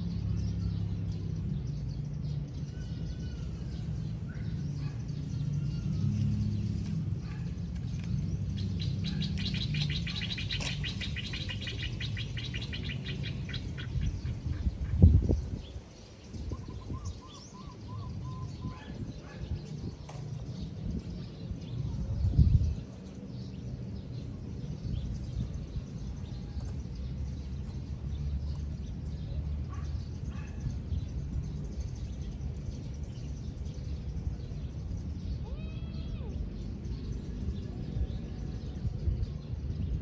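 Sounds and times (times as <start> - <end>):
wind rumble on microphone: 0.0 - 40.0
bird chirps and calls: 1.5 - 40.0.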